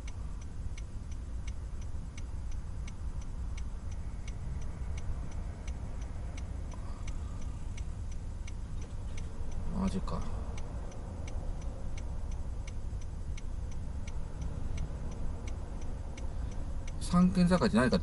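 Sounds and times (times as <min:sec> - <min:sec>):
car turn signal ticking: 0:00.0 - 0:18.0.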